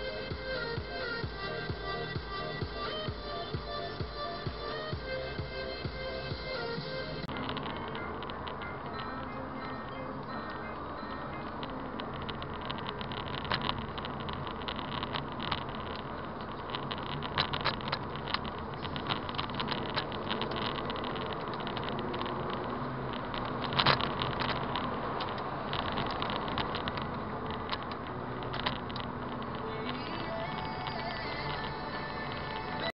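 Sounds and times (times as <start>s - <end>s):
car engine and tyre noise: 0.0s - 32.9s
sharp clicks and crackles: 6.2s - 32.9s.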